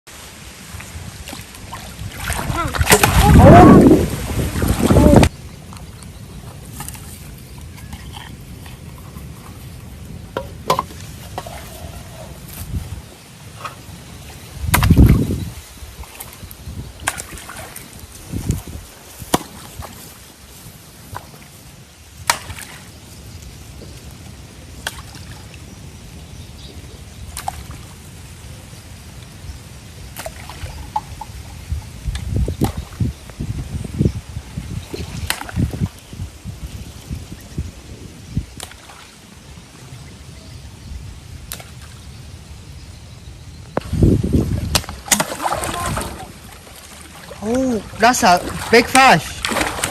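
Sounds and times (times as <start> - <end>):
water splashing and sloshing: 0.1 - 26.2, 27.2 - 37.7, 38.5 - 40.3, 43.7 - 49.9.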